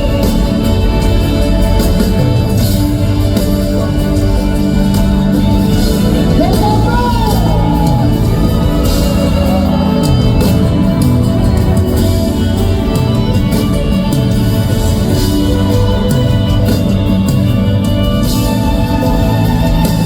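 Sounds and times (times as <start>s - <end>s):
live band playing slow song: 0.0s - 20.0s
sliding melody line: 0.0s - 20.0s.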